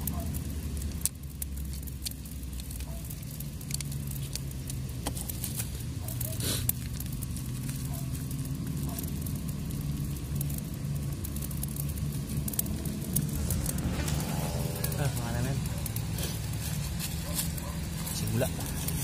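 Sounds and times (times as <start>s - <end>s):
fire crackling and popping: 0.0s - 19.0s
fire hiss: 0.0s - 19.0s.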